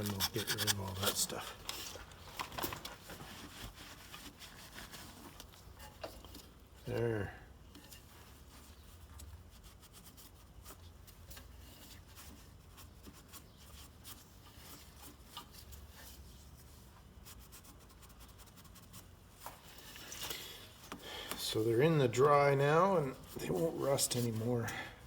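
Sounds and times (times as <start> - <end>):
faint scratching and rubbing: 0.0 - 25.0.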